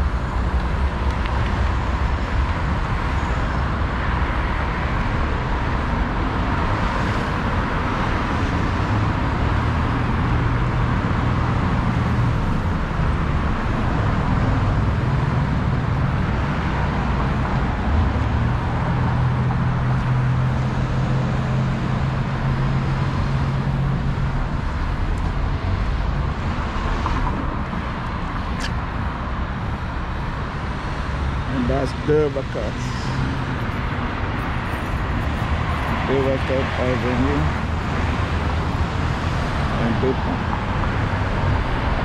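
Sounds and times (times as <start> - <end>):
street traffic passing: 0.0 - 42.0.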